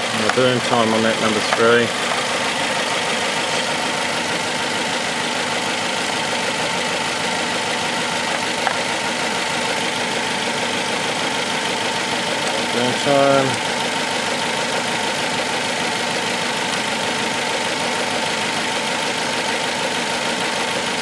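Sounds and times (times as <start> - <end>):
engine idling with misfire: 0.0 - 21.0.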